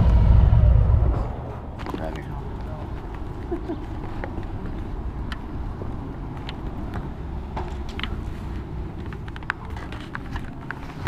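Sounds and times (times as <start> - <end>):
motorcycle engine rumble: 0.0 - 11.0
wind while riding: 0.0 - 11.0.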